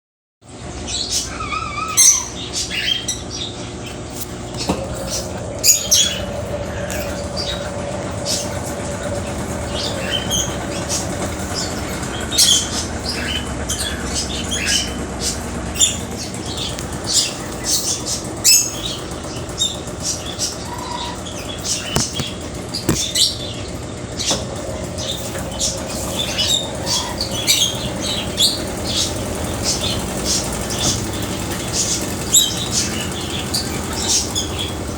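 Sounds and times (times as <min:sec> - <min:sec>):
washing machine motor hum: 0:00.5 - 0:34.9.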